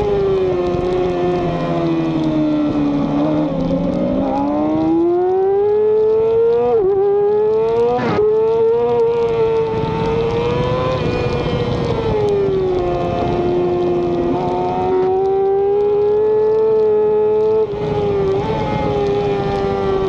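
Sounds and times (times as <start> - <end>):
racing motorcycle engine high revs: 0.0 - 20.0.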